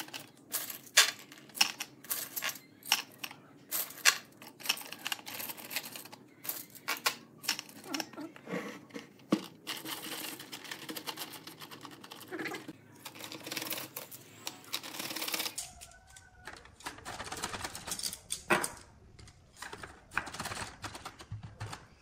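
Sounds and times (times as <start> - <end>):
chopsticks clicking and clattering: 0.0 - 8.3, 9.2 - 21.2.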